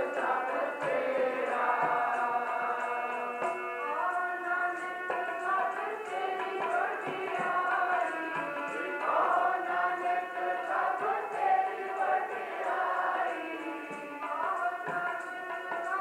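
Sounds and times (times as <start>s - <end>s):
harmonium chords: 0.0s - 16.0s
tabla drumming: 0.0s - 16.0s
voices singing together: 0.0s - 16.0s.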